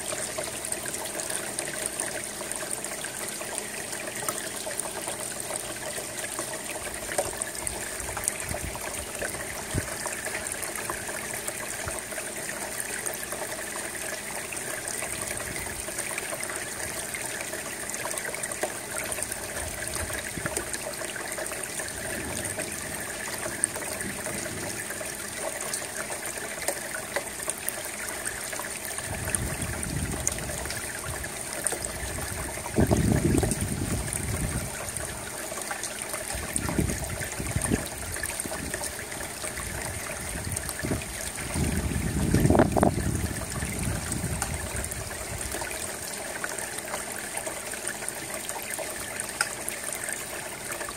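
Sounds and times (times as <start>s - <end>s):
runoff dripping into water: 0.0s - 50.9s
steady rain: 0.0s - 50.9s.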